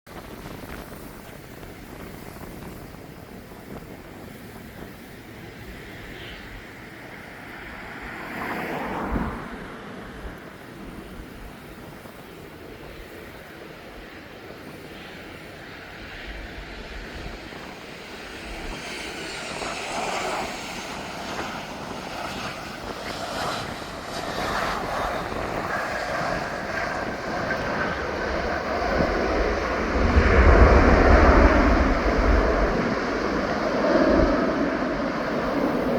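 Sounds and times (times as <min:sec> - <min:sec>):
airplane engine rumble: 0:00.1 - 0:35.9.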